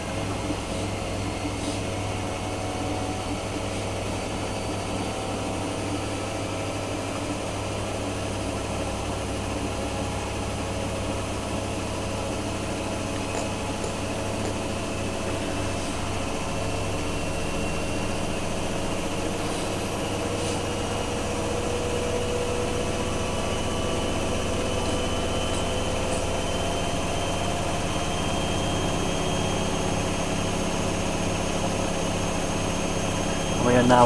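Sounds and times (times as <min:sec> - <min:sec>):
high motor whine: 0:00.0 - 0:34.0
washing machine drum spinning: 0:00.0 - 0:34.0.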